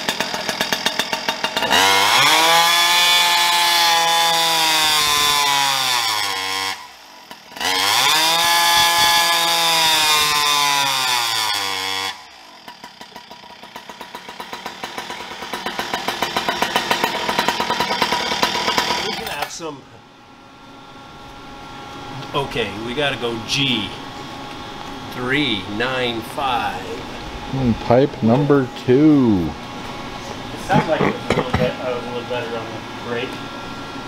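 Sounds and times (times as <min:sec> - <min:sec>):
two-stroke engine idling: 0:00.0 - 0:03.7, 0:05.0 - 0:34.0
two-stroke engine revving: 0:00.0 - 0:19.7, 0:21.7 - 0:34.0.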